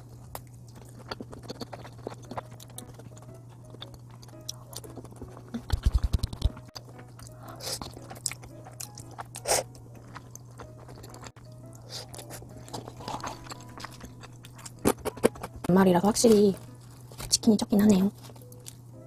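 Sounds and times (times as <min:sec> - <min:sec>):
chewing crispy food: 0:00.0 - 0:19.0.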